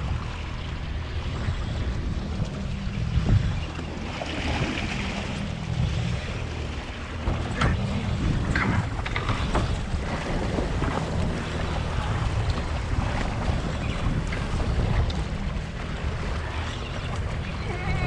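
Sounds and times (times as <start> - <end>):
boat engine running: 0.0 - 18.0
water washing against hull: 0.0 - 18.0
wind buffeting microphone: 0.0 - 18.0.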